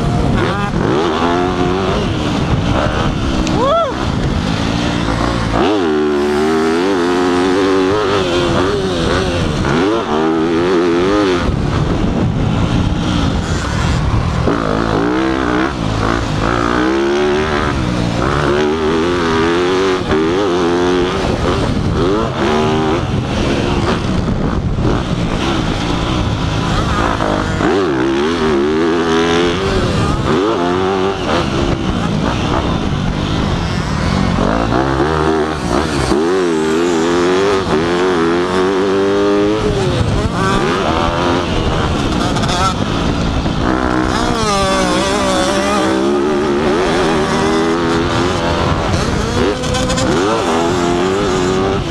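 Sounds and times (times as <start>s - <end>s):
motocross bike engine revving: 0.0s - 51.9s
wind noise: 0.0s - 51.9s.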